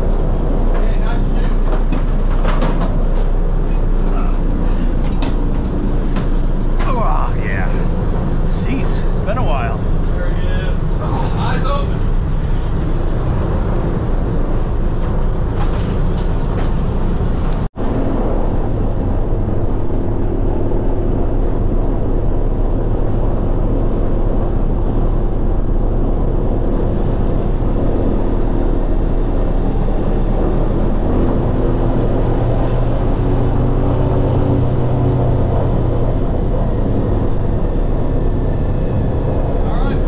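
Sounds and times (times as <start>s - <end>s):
propeller engines droning: 0.0s - 40.0s.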